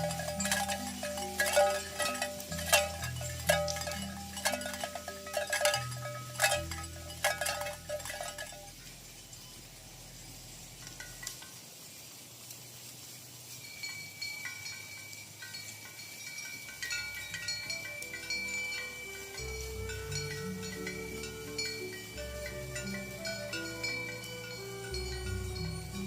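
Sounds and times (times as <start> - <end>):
bell-like chiming: 0.0 - 9.7, 13.6 - 26.0.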